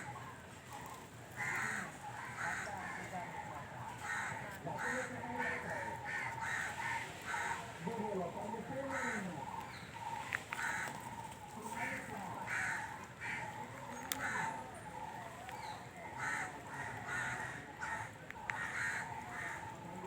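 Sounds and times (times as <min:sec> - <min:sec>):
crows cawing: 0:00.0 - 0:20.0
people talking: 0:01.6 - 0:20.0.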